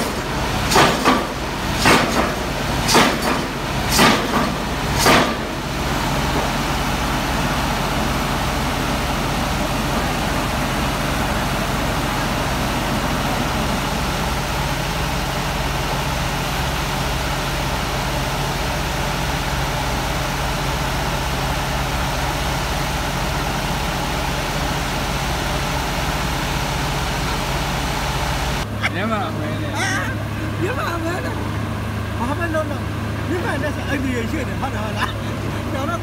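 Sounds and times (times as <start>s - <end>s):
heavy diesel engine droning: 0.0s - 36.0s.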